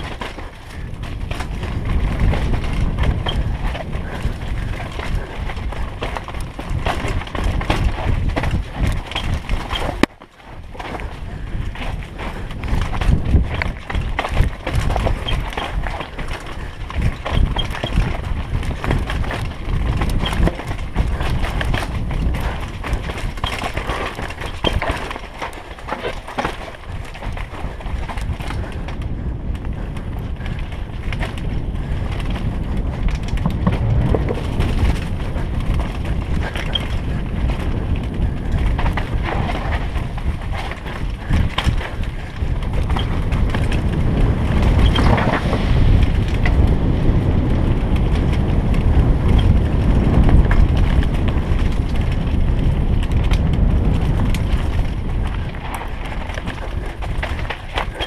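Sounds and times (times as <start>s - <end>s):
bike rattling: 0.0s - 58.0s
tyres on dirt and stones: 0.0s - 58.0s
wind on microphone: 0.0s - 58.0s.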